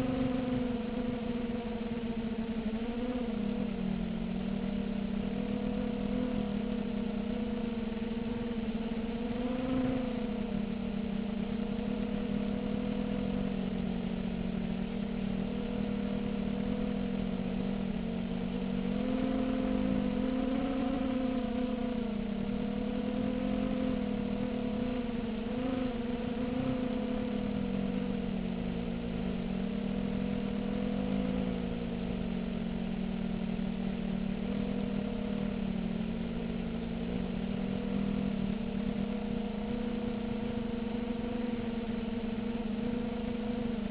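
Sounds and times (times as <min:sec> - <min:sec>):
quadcopter motors droning: 0:00.0 - 0:43.9.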